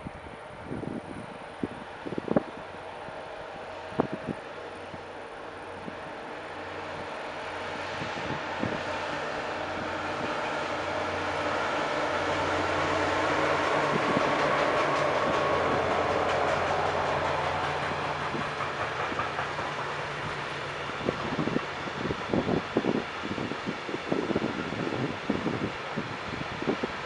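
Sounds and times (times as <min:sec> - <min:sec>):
diesel locomotive engines humming: 0:00.0 - 0:27.0
train wheels clicking on rails: 0:01.6 - 0:27.0.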